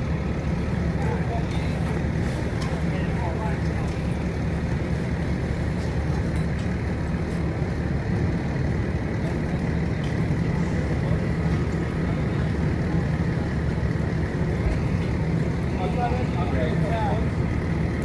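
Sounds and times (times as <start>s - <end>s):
fire engine engine drone: 0.0s - 18.0s.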